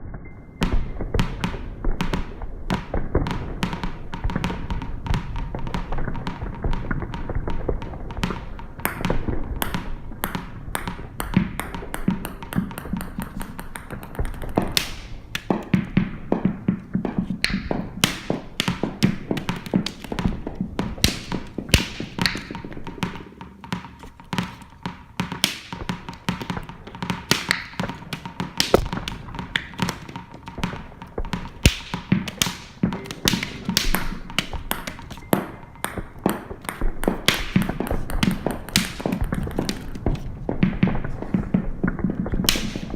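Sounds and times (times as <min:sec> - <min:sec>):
percussion objects tapping and clicking: 0:00.6 - 0:41.0.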